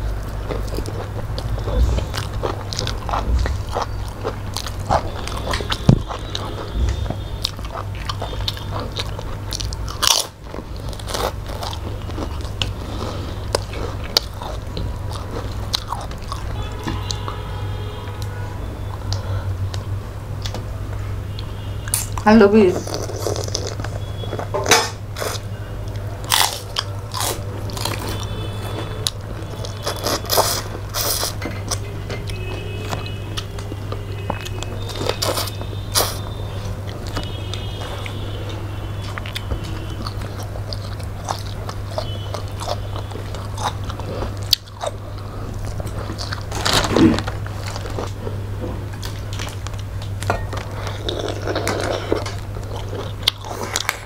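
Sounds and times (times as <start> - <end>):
people chewing and crunching: 0.0 - 54.0
steady low hum: 0.0 - 54.0.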